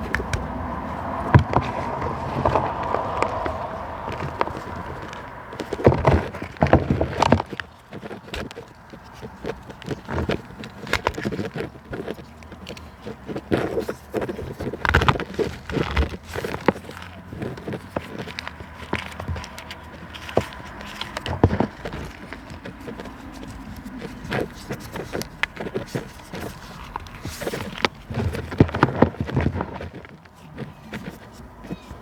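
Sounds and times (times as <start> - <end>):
crunching and crackling: 0.0 - 32.0.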